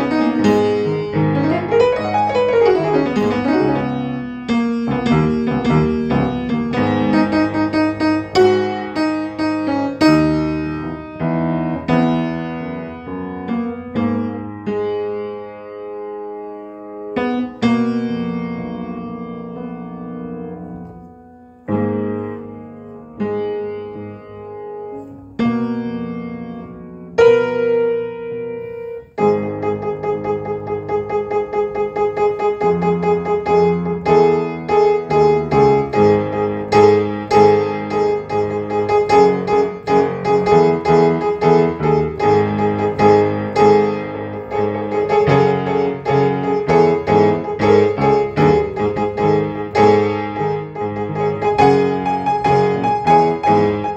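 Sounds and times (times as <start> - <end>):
solo piano: 0.0 - 53.9.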